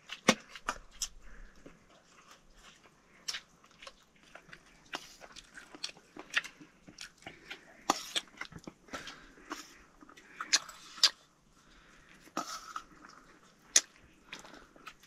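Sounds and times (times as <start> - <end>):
crisp chewing crunches: 0.0 - 15.0.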